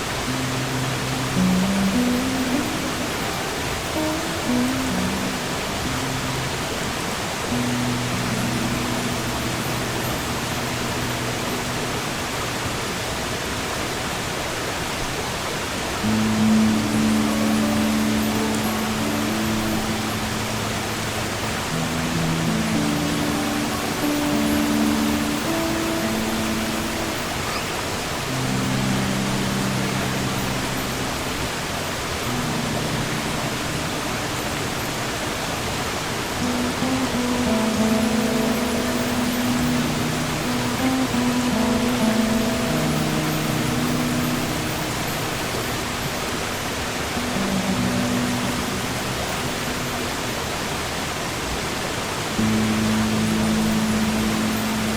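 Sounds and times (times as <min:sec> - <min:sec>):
acoustic guitar chords: 0:00.0 - 0:12.6, 0:16.0 - 0:27.7, 0:28.3 - 0:31.5, 0:32.2 - 0:35.2, 0:36.4 - 0:50.4, 0:52.4 - 0:54.9
sea surf: 0:00.0 - 0:54.9.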